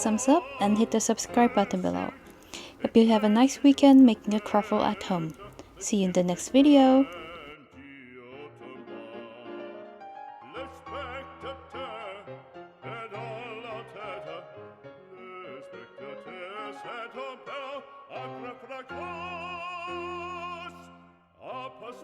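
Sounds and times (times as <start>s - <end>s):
operatic singing with accompaniment: 0.0s - 22.0s.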